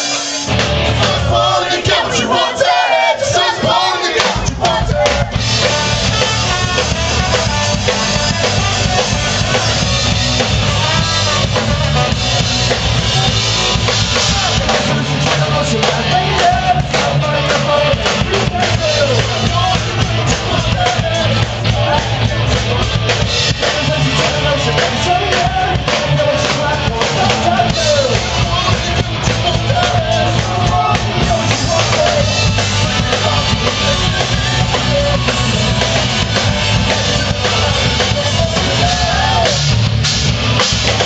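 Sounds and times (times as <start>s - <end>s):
electric guitar: 0.0s - 2.4s, 4.2s - 41.0s
drum kit: 0.0s - 41.0s
man singing: 0.0s - 41.0s.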